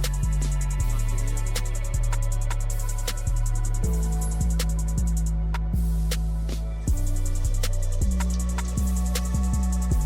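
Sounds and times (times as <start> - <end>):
hip hop beat: 0.0 - 10.0.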